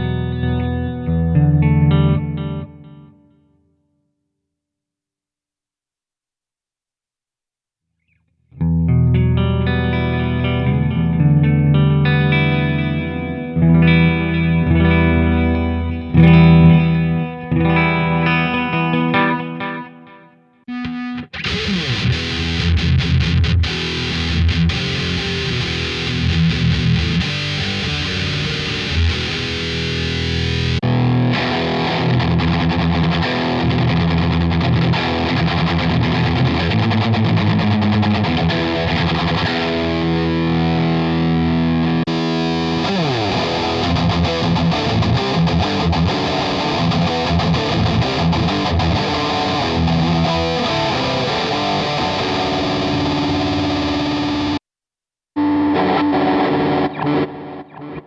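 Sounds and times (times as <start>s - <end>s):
distorted electric guitar: 0.0s - 3.4s, 8.5s - 54.6s, 55.4s - 58.0s.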